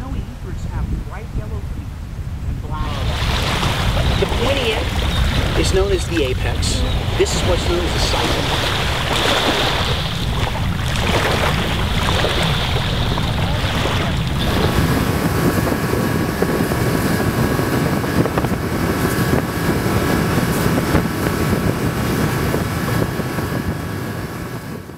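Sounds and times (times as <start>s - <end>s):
wind buffeting microphone: 0.0s - 24.9s
motorboat engine running: 2.6s - 24.9s
water lapping at shoreline: 2.7s - 23.5s.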